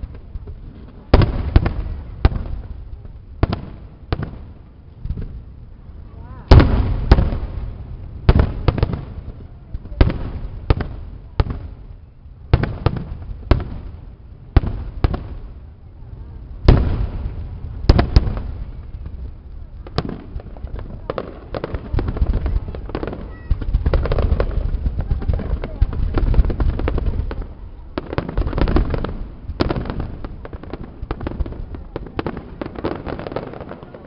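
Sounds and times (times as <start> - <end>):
crackling firework barrage: 0.0 - 34.0.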